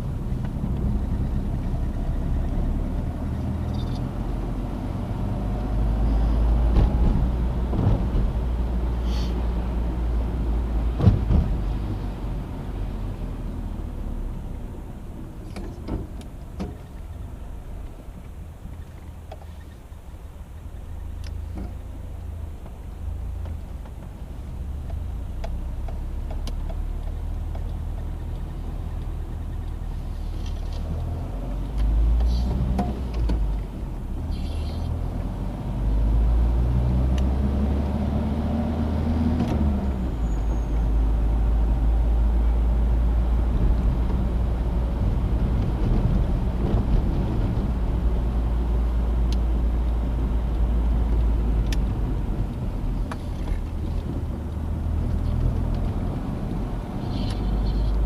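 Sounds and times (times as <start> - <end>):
car engine driving: 0.0 - 58.0.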